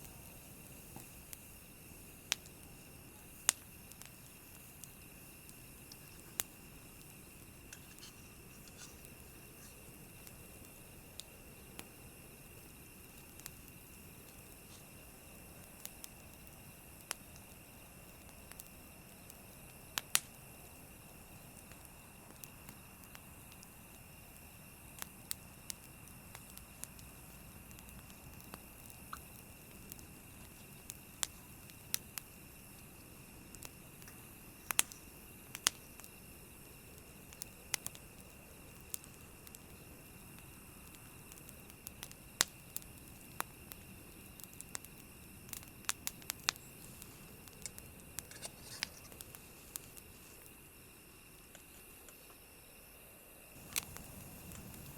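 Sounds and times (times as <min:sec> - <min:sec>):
campfire crackling: 0:00.0 - 0:54.9
faint steady hiss: 0:00.0 - 0:54.9.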